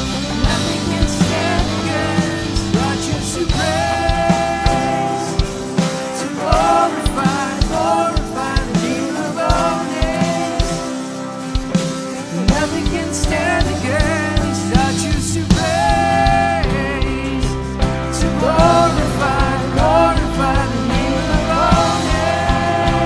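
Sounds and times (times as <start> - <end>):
drum hits: 0.0 - 23.0
live band playing: 0.0 - 23.0.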